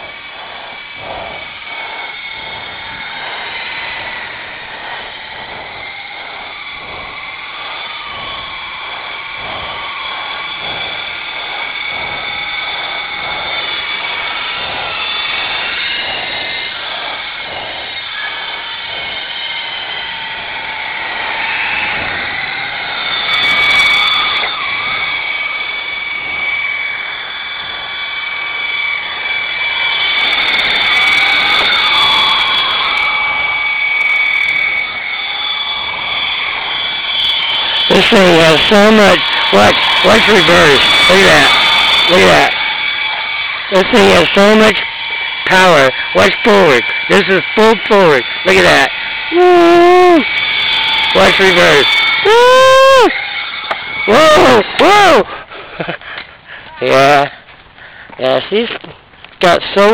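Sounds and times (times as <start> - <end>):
toy helicopter rotor whine: 0.0 - 59.9.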